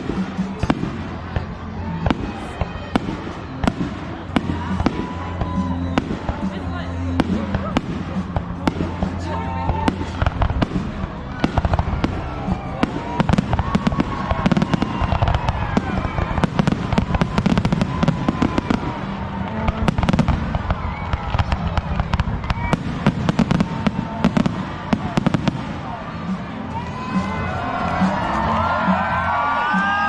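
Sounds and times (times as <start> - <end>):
deep fireworks booms: 0.0 - 26.6
fireworks bangs and crackles: 0.0 - 30.0.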